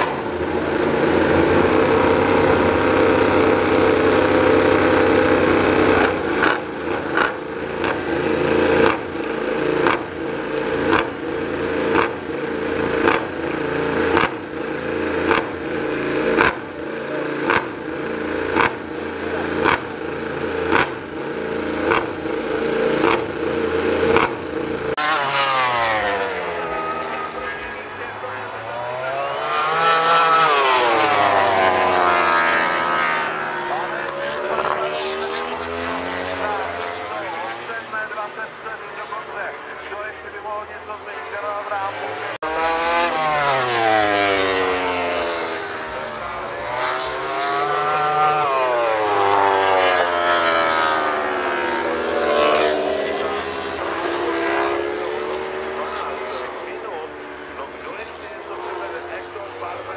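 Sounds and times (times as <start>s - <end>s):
motorcycle engines revving: 0.0s - 59.9s
motorcycle passing: 0.0s - 59.9s.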